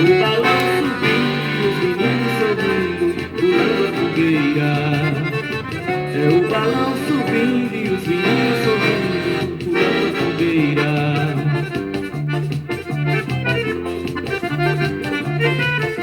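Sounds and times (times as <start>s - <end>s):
accordion playing melody: 0.0s - 16.0s
repeating bass rhythm: 0.0s - 16.0s.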